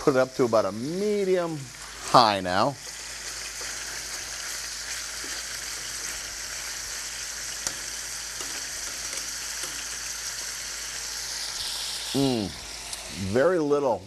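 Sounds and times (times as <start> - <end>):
meat sizzling in a frying pan: 0.0 - 13.6.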